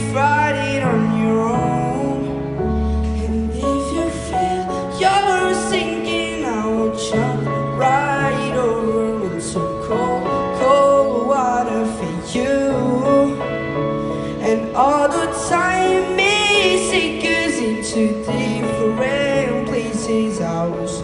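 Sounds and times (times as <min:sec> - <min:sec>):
young man singing into microphone: 0:00.0 - 0:21.0.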